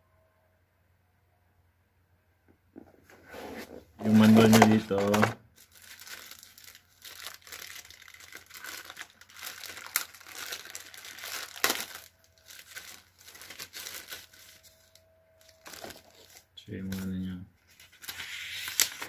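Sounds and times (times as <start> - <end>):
paper and packaging crinkling: 3.5 - 19.0.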